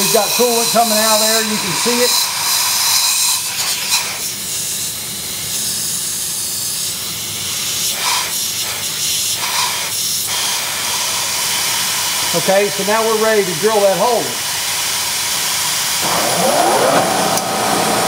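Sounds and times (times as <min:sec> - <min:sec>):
compressed air hissing from nozzle: 0:00.0 - 0:13.2, 0:13.8 - 0:17.0.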